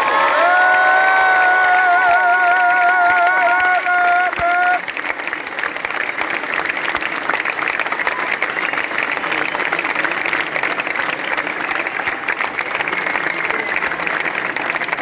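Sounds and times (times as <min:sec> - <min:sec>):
large crowd applauding: 0:00.0 - 0:15.0.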